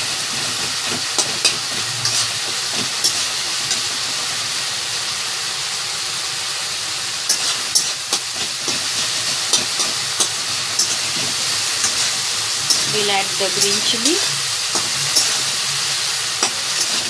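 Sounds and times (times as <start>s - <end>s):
gravy sizzling in a pan: 0.0s - 17.0s.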